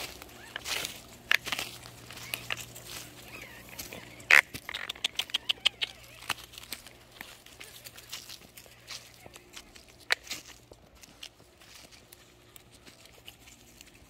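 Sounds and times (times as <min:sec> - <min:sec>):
footsteps on leaf litter and twigs: 0:00.0 - 0:14.0.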